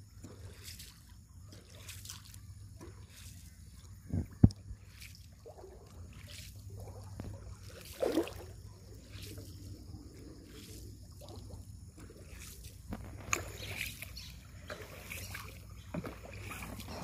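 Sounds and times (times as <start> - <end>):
paddle splashing in water: 0.0 - 17.0.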